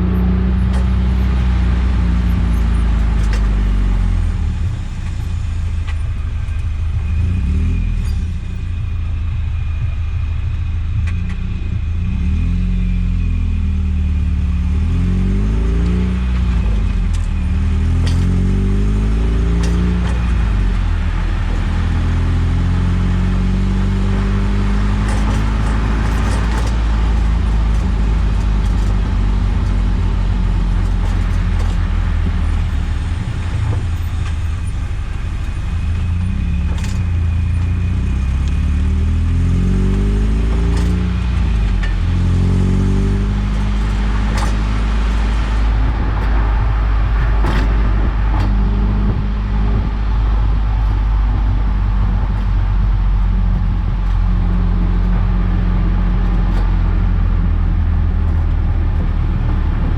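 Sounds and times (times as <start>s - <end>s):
suspension clunk: 0.0s - 12.5s, 15.4s - 59.9s
car engine revving: 0.0s - 59.9s
road noise: 0.0s - 59.9s.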